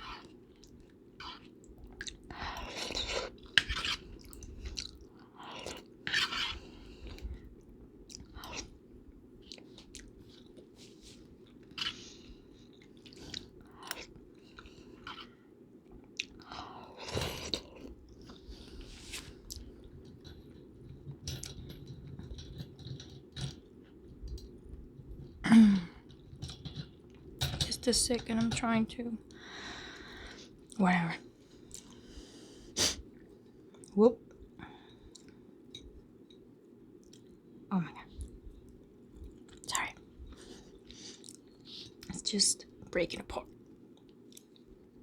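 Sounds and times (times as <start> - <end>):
low background noise: 0.0 - 45.0.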